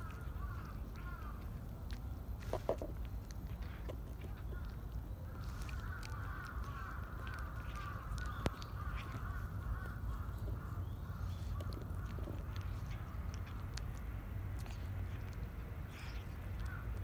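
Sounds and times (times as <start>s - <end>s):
cat chewing dry kibble: 0.0s - 17.0s.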